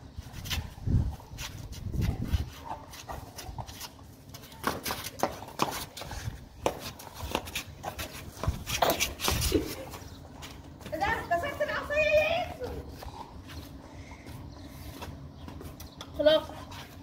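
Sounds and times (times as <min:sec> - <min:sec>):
sandals scuffing on brick paving: 0:00.0 - 0:17.0.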